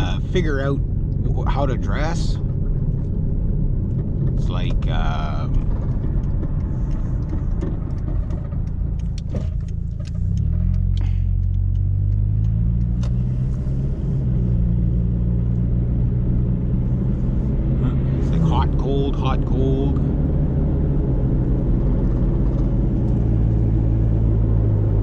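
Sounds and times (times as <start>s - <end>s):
road rumble: 0.0s - 25.0s
vehicle engine from inside cabin: 0.0s - 25.0s.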